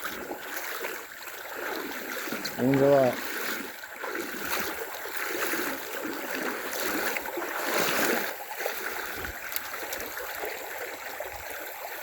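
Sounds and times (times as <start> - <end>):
river water rushing and splashing: 0.0 - 12.0.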